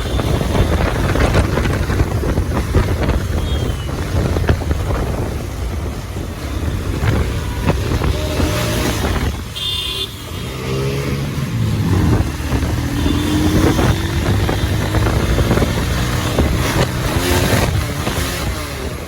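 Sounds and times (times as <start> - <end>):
motorcycle engine running: 0.0 - 19.0
road traffic: 0.0 - 19.0.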